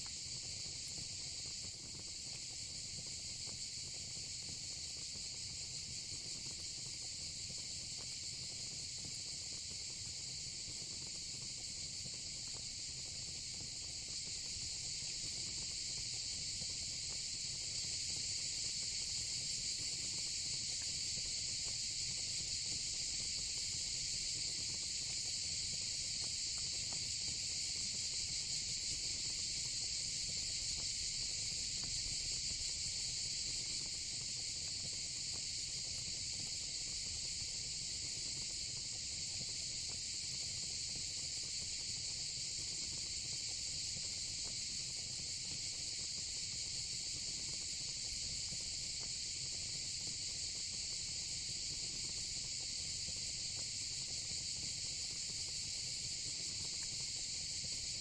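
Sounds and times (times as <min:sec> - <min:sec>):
crickets and cicadas chirping: 0:00.0 - 0:58.0.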